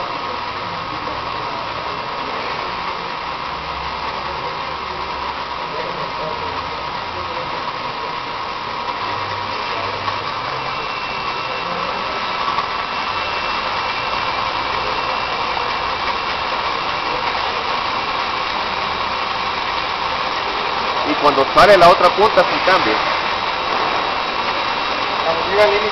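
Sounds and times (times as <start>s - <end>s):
faint steady whine: 0.0s - 25.9s
roller machine whirring hum: 0.0s - 25.9s.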